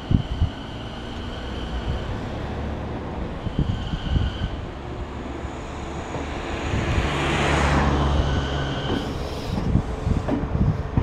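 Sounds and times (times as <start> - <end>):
electric train running rumble: 0.0 - 11.0.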